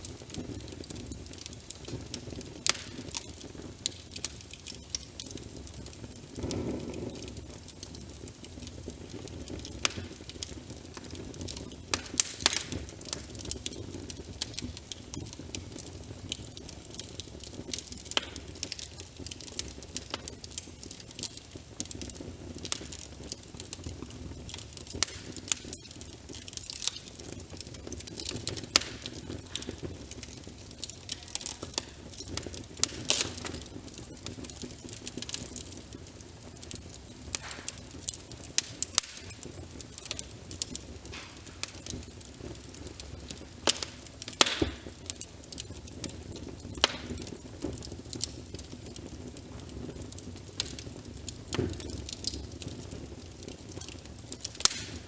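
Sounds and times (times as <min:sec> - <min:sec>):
rain pattering on a window: 0:00.0 - 0:55.0
wood fire crackling and popping: 0:00.0 - 0:55.0.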